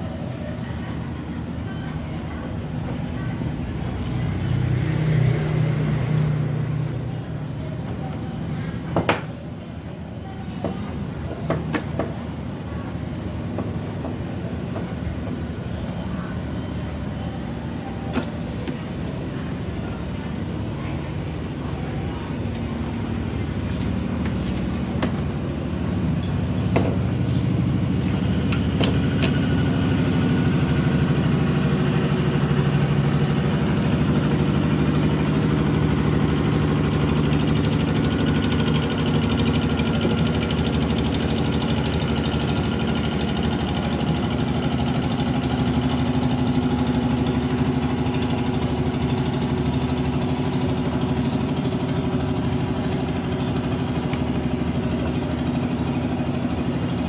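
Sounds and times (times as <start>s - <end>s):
low engine-like rumble: 0.0s - 57.0s.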